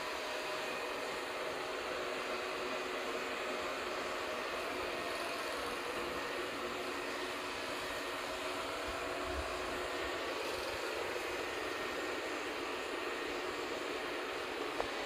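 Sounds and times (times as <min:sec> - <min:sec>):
robot vacuum running: 0:00.0 - 0:15.0.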